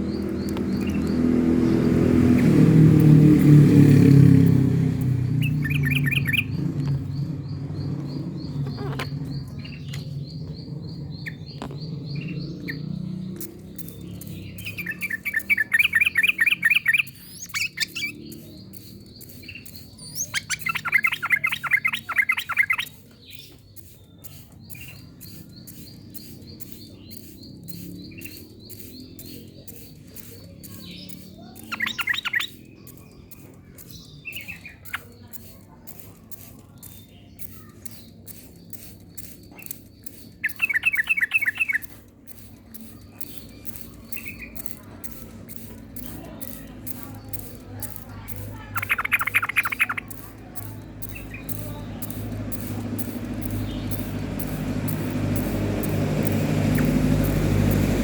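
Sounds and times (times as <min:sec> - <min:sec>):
bird singing rapid chattering notes: 0:00.0 - 0:58.0
faint fast ticking: 0:00.0 - 0:58.0.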